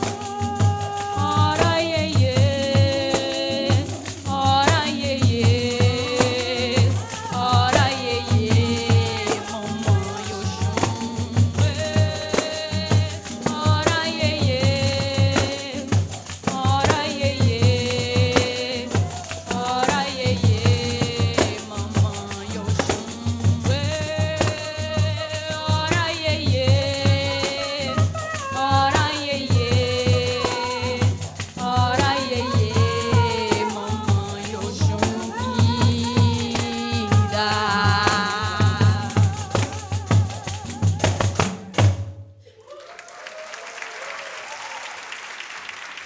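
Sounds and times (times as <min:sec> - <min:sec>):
deep drum-skin beats: 0:00.0 - 0:42.2
pandeiro jingle rattles: 0:00.0 - 0:42.2.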